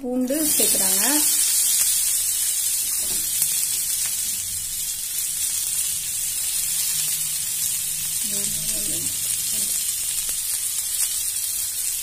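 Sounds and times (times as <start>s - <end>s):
onions sizzling in hot oil: 0.2s - 12.0s.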